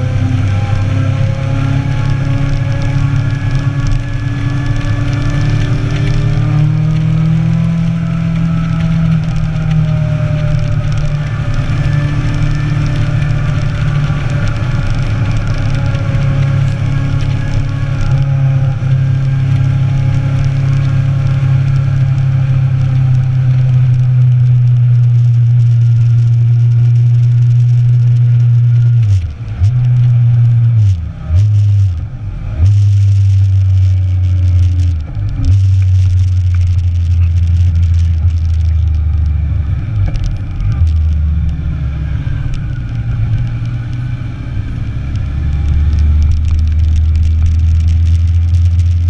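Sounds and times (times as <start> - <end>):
motorcycle engine cruising: 0.0 - 49.0.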